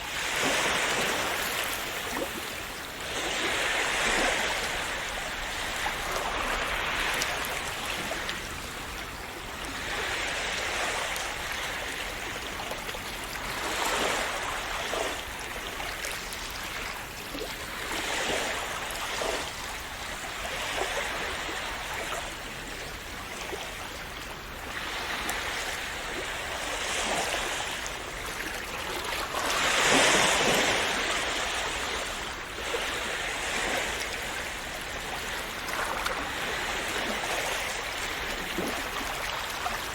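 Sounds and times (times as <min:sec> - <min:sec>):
waves splashing on shore: 0:00.0 - 0:39.9.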